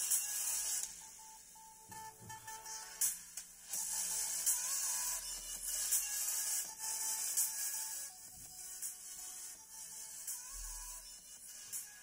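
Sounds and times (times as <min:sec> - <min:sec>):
plasma arc speaker music: 0:00.0 - 0:12.0.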